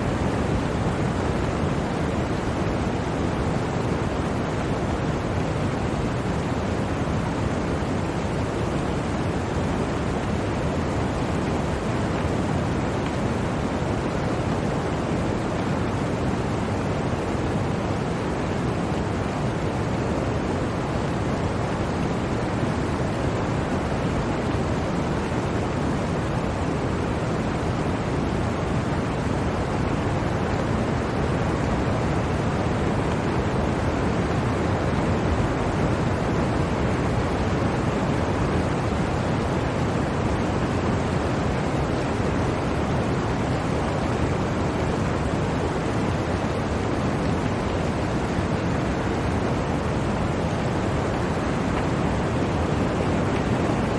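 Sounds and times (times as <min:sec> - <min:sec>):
blizzard wind blowing: 0:00.0 - 0:53.9.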